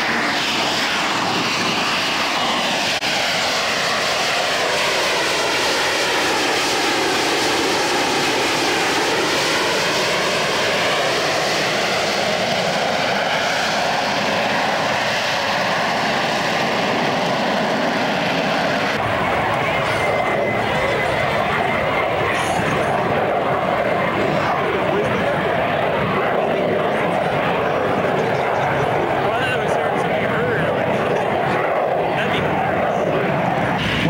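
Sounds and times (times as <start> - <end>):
jet roar with whining tones: 0.0 - 34.0.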